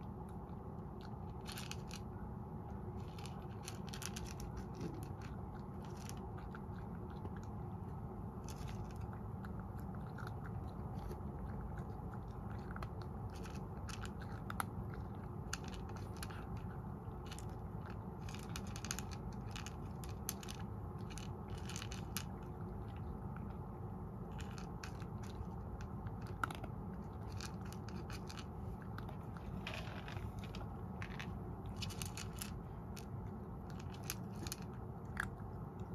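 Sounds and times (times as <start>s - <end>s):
cat chewing crunchy food: 0.0s - 35.9s
steady low hum: 0.0s - 35.9s.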